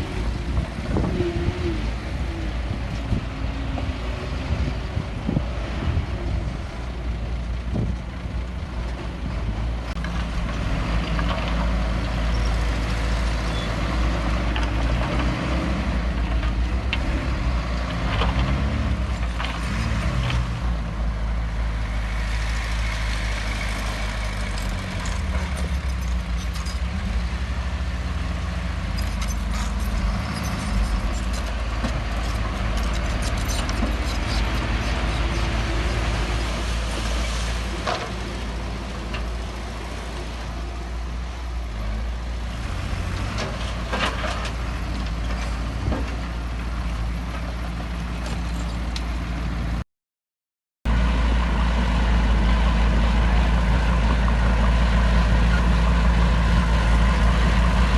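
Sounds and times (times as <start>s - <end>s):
heavy diesel machinery engine: 0.0s - 49.8s, 50.9s - 57.9s.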